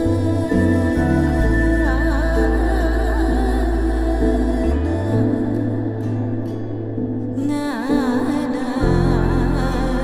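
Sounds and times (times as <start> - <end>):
ambient devotional drone music: 0.0 - 10.0.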